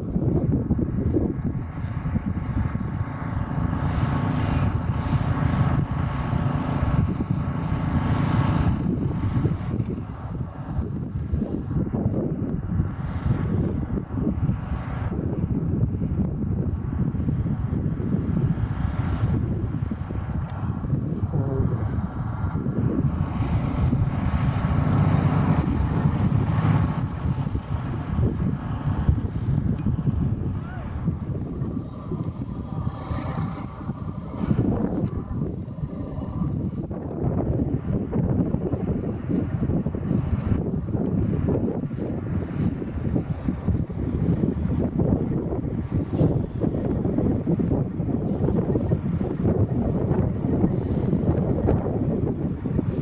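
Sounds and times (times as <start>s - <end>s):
jet engines whining: 0.0s - 53.0s
wind rumbling on microphone: 0.0s - 53.0s.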